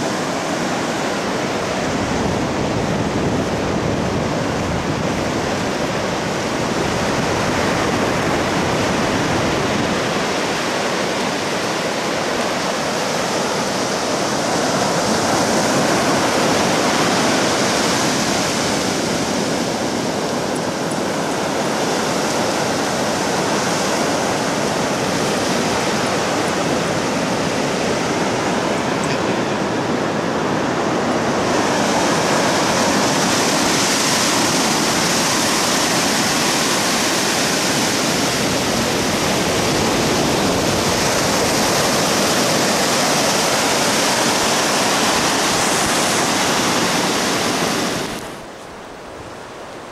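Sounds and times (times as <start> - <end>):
ocean surf breaking on a beach: 0.0 - 49.9.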